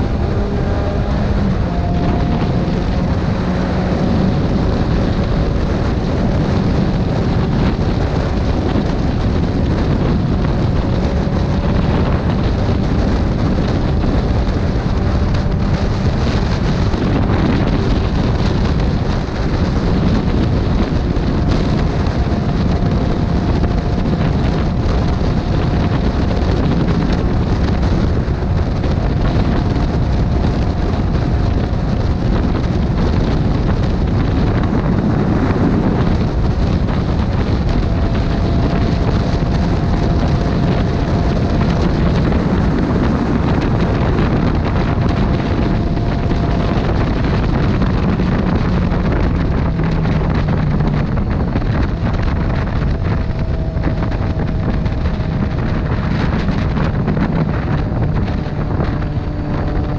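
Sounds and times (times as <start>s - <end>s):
faint motorcycle engine drone: 0.0s - 59.9s
wind rush over microphone: 0.0s - 59.9s.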